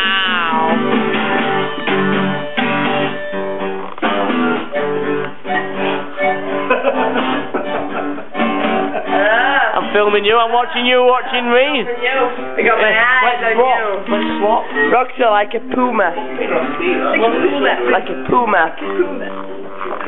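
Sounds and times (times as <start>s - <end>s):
harmonica playing: 0.0s - 20.0s
strummed guitar chords: 0.0s - 20.0s.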